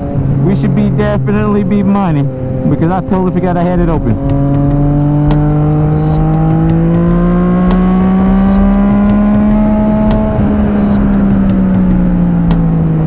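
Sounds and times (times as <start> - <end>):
motorcycle engine accelerating: 0.0 - 13.0
wind rush at helmet: 0.0 - 13.0.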